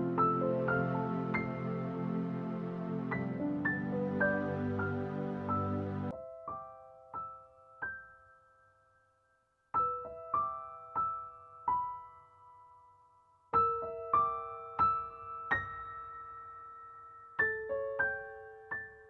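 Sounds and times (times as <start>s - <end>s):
gentle piano notes: 0.0s - 8.7s, 9.7s - 12.9s, 13.5s - 19.0s.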